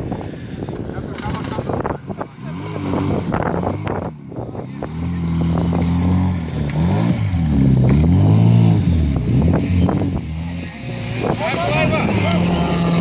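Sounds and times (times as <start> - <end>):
car engine revving: 1.2 - 13.0.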